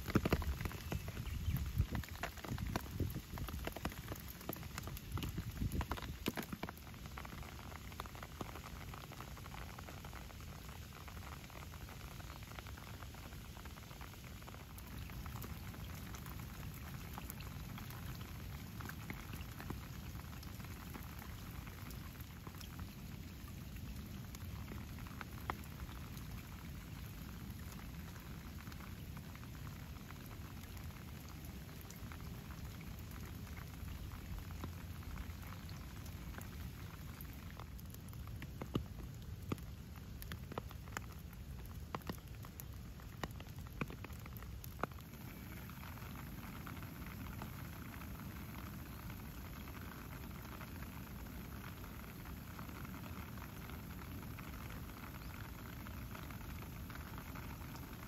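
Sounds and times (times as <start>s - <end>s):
drips on rock and grass: 0.0s - 58.0s
light rain hissing: 0.0s - 58.0s.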